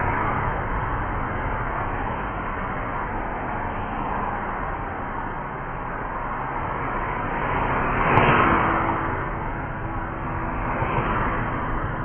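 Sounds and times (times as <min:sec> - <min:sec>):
cars passing: 0:00.0 - 0:12.0
traffic rumble: 0:00.0 - 0:12.0.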